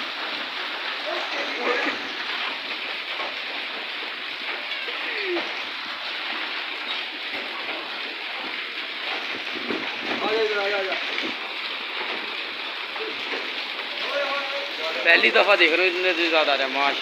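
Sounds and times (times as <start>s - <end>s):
hailstones ticking: 0.0s - 17.0s
heavy rain on pavement: 0.0s - 17.0s.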